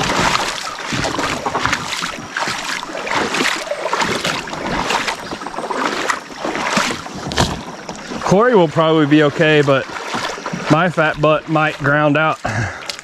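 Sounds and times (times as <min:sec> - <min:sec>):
paddle strokes splashing water: 0:00.0 - 0:13.0
water dripping: 0:00.0 - 0:13.0.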